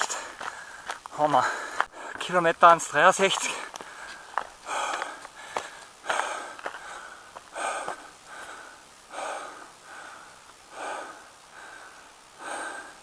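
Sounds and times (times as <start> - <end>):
runner breathing heavily: 0.0 - 2.4, 3.2 - 13.0.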